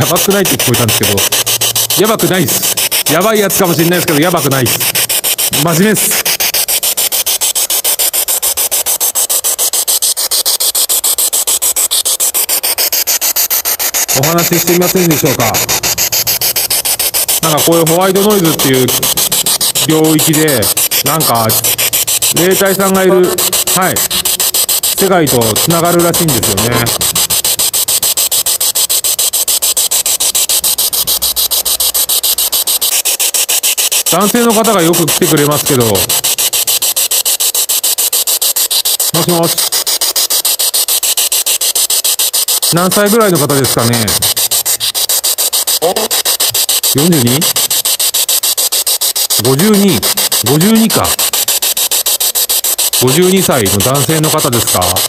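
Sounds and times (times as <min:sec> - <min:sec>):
choppy radio static hiss: 0:00.0 - 0:06.8, 0:08.3 - 0:37.5, 0:38.7 - 0:40.1, 0:42.6 - 0:48.3, 0:49.0 - 0:55.0.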